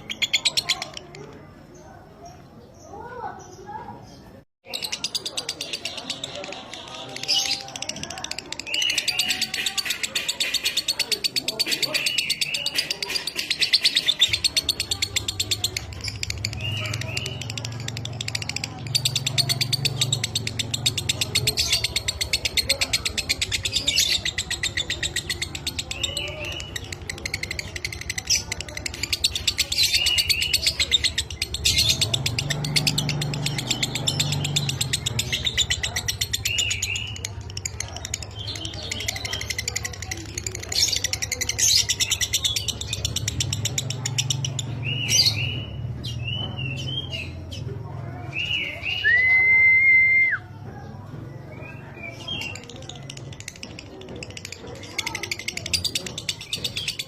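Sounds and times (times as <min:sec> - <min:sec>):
bird chattering trill: 0:00.0 - 0:01.7, 0:04.6 - 0:49.0, 0:51.7 - 0:57.0.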